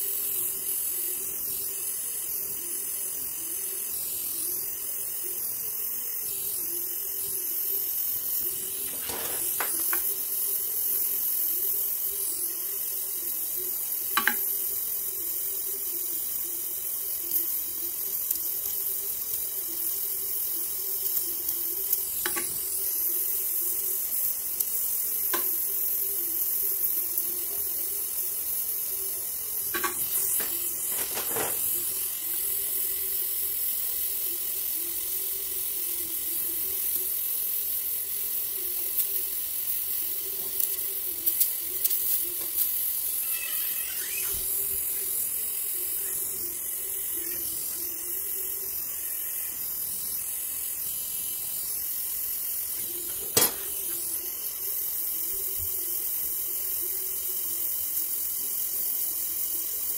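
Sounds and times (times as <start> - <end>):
welding torch flame hissing: 0.0 - 59.9.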